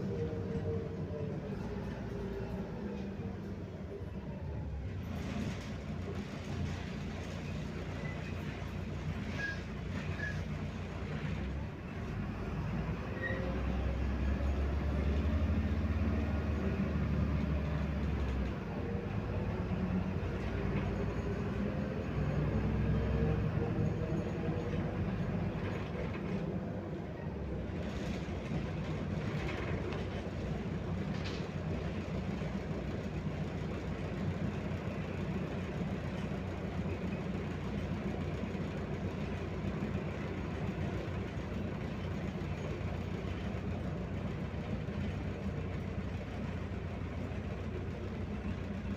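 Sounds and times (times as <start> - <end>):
bus diesel engine: 0.0 - 48.9
road rumble: 0.0 - 48.9.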